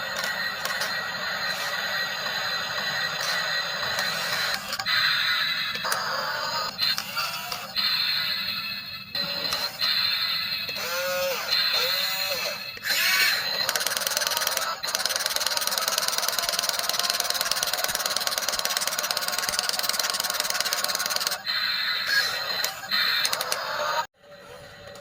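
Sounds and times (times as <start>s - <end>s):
toy electric motors whirring: 0.0s - 25.0s.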